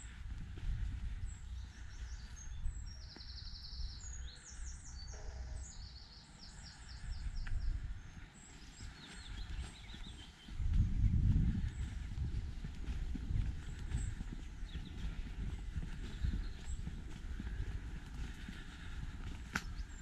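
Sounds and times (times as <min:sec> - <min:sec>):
songbirds singing: 0:00.0 - 0:20.0
steady low rumble: 0:00.0 - 0:20.0.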